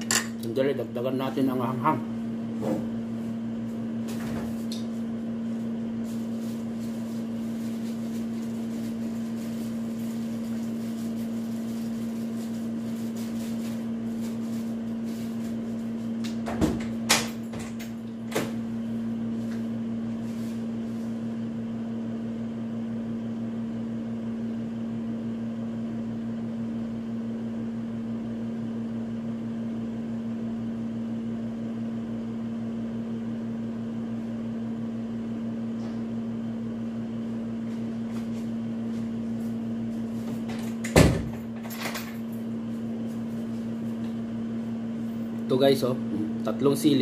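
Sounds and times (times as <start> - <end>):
appliance electrical hum: 0.0 - 47.0.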